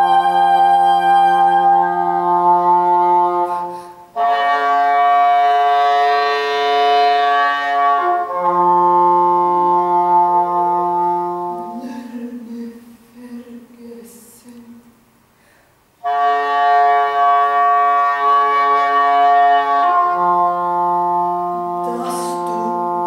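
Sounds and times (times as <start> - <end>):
english horn long held notes: 0.0 - 12.4, 16.0 - 23.0.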